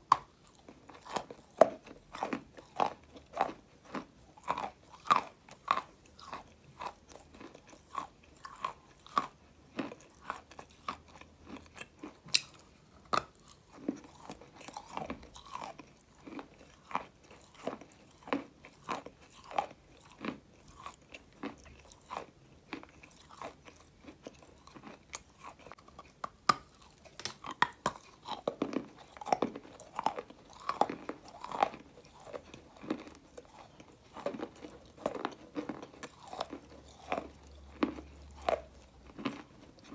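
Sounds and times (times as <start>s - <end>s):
person chewing clay: 0.0s - 39.9s.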